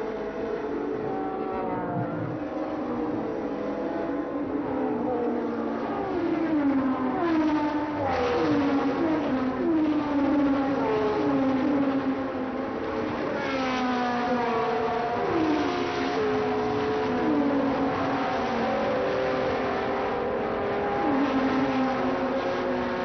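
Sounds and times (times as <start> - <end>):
racing cars passing by: 0.0 - 23.0.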